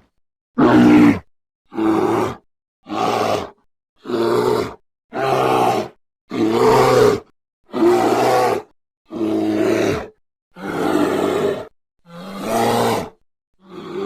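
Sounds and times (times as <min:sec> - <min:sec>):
dinosaur roars: 0:00.6 - 0:14.0.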